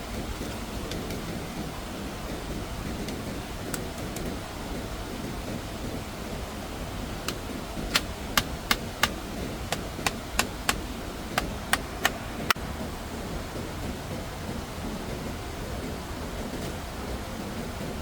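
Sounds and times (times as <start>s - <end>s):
steady noise: 0.0s - 18.0s.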